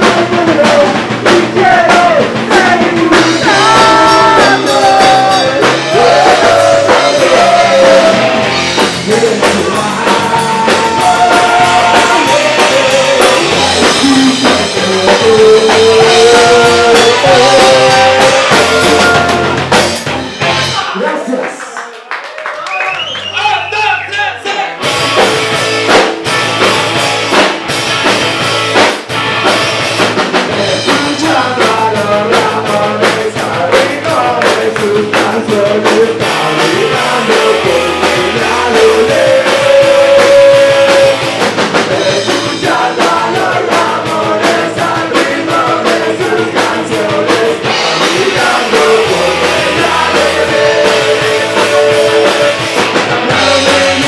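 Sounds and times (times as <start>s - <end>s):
man singing: 0.0s - 19.8s, 30.4s - 54.0s
distorted electric guitar: 0.0s - 21.0s, 24.6s - 54.0s
electric bass: 0.0s - 21.0s, 24.7s - 54.0s
drum kit fast beat: 0.0s - 21.4s, 24.7s - 54.0s.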